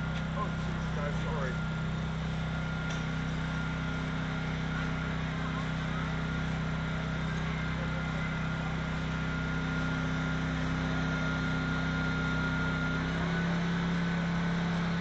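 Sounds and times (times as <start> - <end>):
engine running steadily with whine: 0.0 - 15.0.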